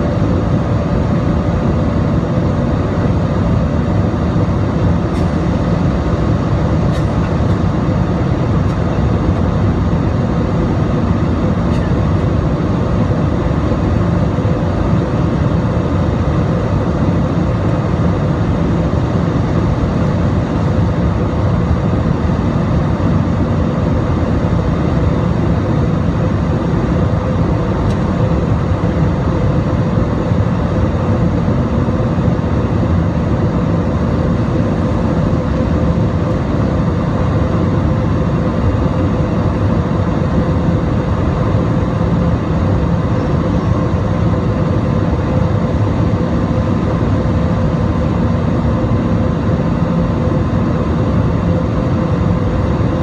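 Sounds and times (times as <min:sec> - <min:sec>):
airliner engines droning: 0:00.0 - 0:53.0
steady hum tones: 0:00.0 - 0:53.0.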